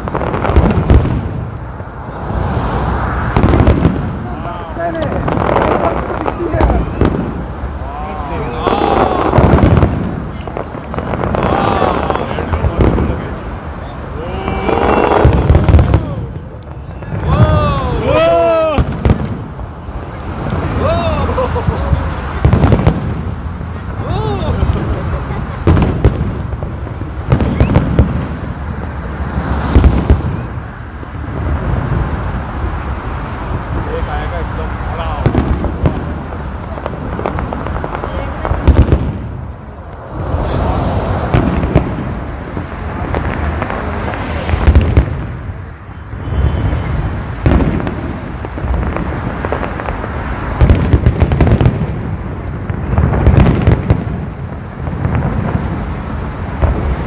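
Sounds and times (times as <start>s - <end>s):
fireworks bangs: 0.0s - 57.0s
fireworks rumble and crackle: 0.0s - 57.0s.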